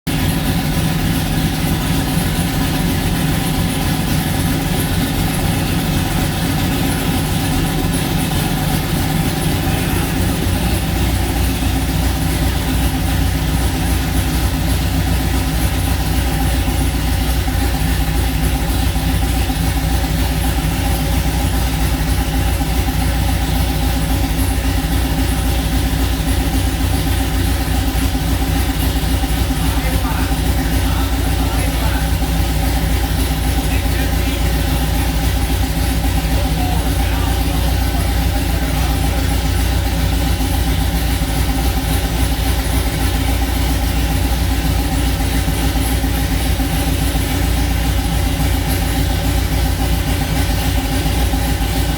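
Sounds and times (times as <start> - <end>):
pickup engine idling: 0.0 - 51.9.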